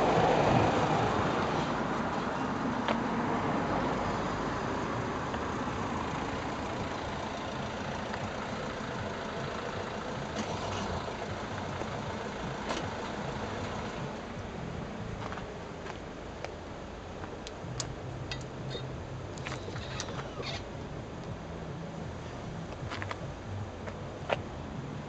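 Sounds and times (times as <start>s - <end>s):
vehicles driving over crossing: 0.0s - 25.0s.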